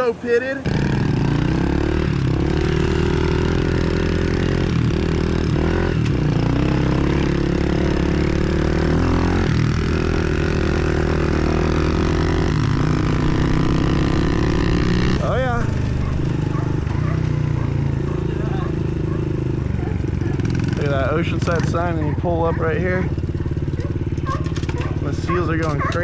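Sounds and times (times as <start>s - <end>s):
pit bike engine running: 0.0s - 26.0s.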